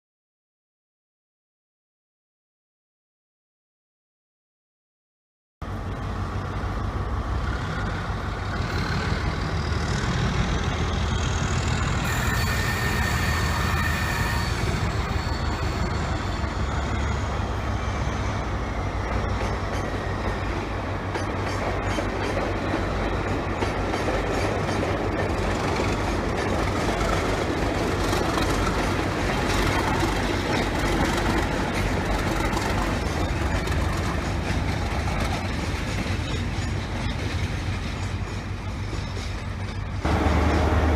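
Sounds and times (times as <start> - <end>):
train rumbling on track: 5.6 - 40.9.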